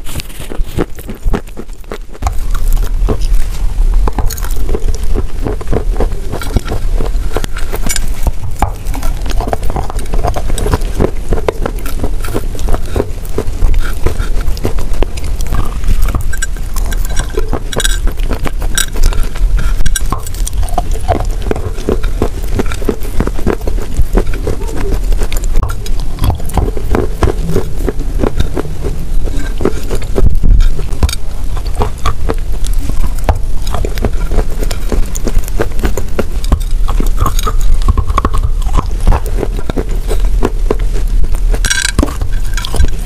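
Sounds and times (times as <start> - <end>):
crunchy cookie chewing: 0.0 - 43.0.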